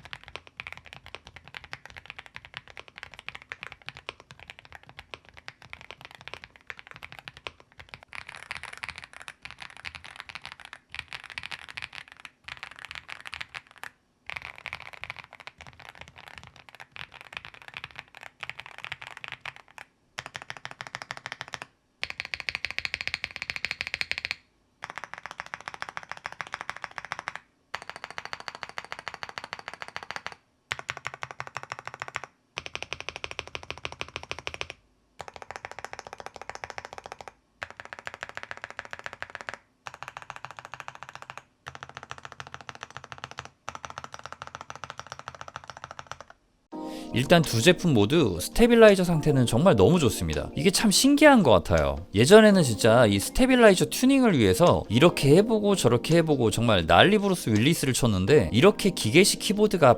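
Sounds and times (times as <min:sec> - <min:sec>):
mechanical keyboard typing: 0:00.0 - 0:46.4, 0:47.1 - 0:59.9.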